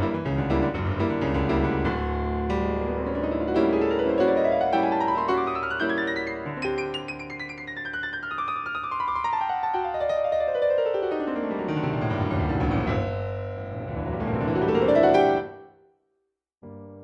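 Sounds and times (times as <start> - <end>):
piano music: 0.0 - 15.8, 16.6 - 17.0.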